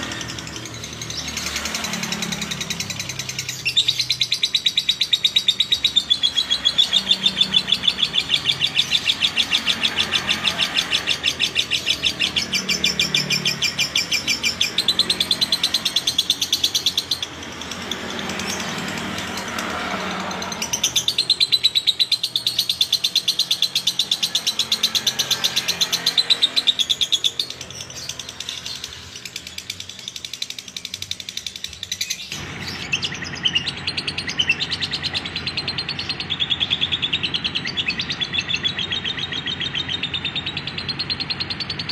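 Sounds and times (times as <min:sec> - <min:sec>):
lovebird chattering trill: 0:00.0 - 0:41.9.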